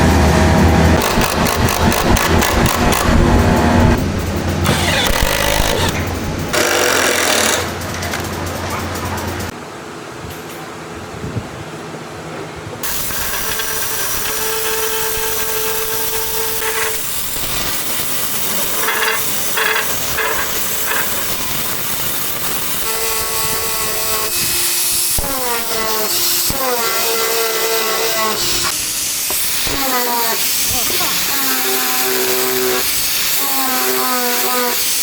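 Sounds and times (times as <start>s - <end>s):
power tool motor whining: 0.0s - 4.0s, 4.6s - 7.7s, 12.8s - 35.0s.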